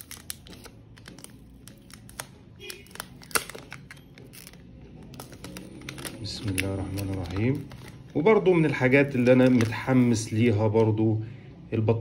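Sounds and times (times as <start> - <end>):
plastic film peeling and crinkling: 0.0 - 10.4.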